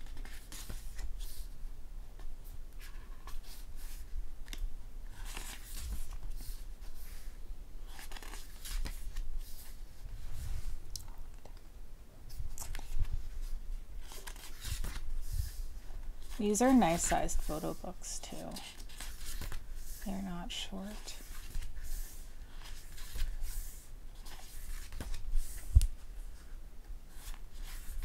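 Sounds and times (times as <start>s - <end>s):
book pages turning: 0.0s - 1.5s, 2.2s - 10.7s, 12.3s - 20.0s, 20.9s - 26.5s, 27.1s - 28.0s.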